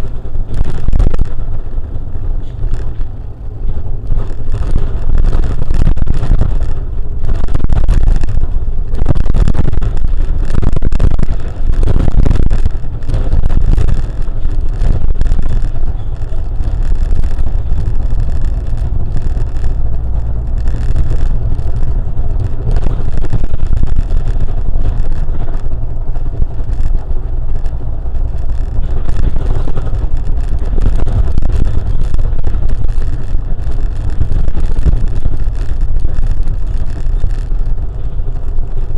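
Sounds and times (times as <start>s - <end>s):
vehicle road and engine rumble: 0.0s - 38.9s
wind buffeting microphone: 0.0s - 38.9s.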